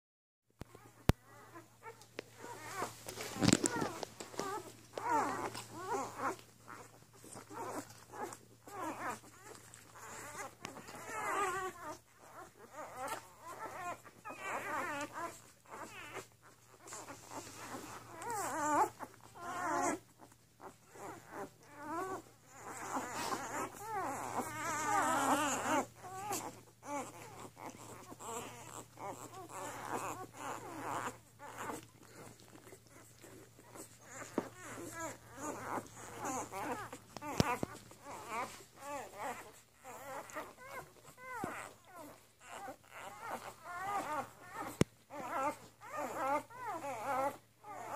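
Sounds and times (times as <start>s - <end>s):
puppies squealing and whimpering: 0.7s - 47.9s.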